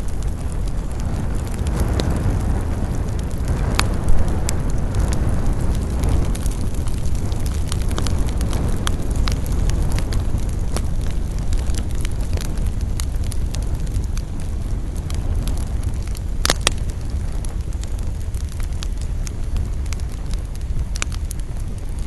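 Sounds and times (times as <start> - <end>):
burning wood crackling: 0.0 - 22.0
campfire rumble: 0.0 - 22.0
wood popping: 3.1 - 21.6.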